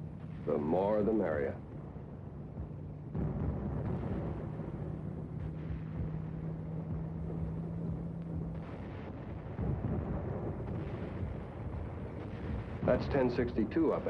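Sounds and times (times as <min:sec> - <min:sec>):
steady hum: 0:00.0 - 0:14.0
tank engines and tracks rumbling: 0:00.0 - 0:14.0.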